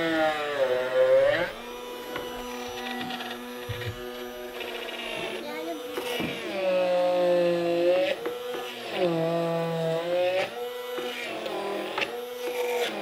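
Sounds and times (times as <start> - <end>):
immersion blender whine: 0.0 - 13.0.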